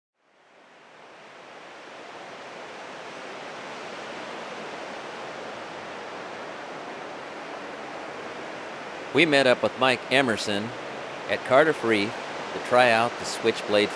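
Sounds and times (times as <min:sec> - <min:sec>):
ocean surf rushing: 0:00.3 - 0:13.9.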